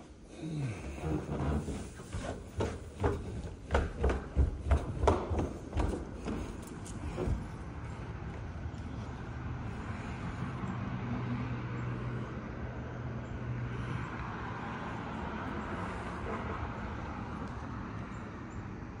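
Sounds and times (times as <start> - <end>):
low engine hum: 0.0 - 19.0
road traffic noise: 0.0 - 19.0.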